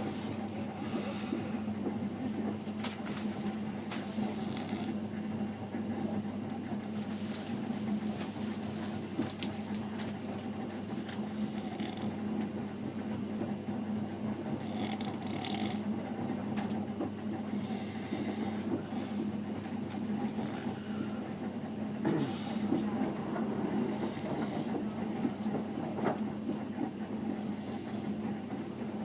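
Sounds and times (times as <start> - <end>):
train running noise from inside: 0.0 - 29.0.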